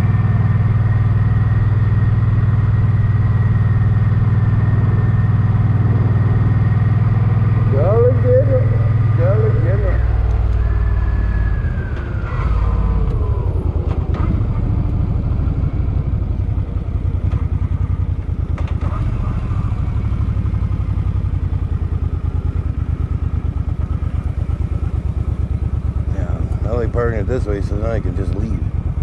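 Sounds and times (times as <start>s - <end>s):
motorcycle engine slowing and idling: 0.0s - 29.0s.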